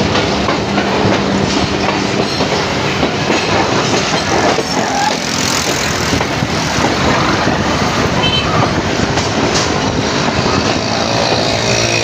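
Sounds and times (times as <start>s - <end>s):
train rumbling: 0.0s - 12.0s
train wheels clattering on track: 0.0s - 12.0s.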